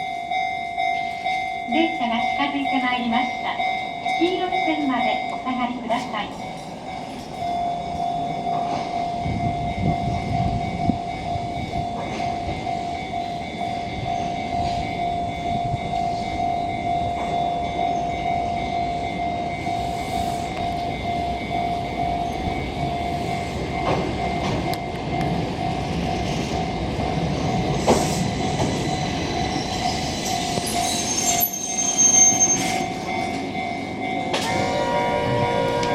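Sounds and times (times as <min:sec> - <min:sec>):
electric train wheels rumbling: 0:00.0 - 0:35.9.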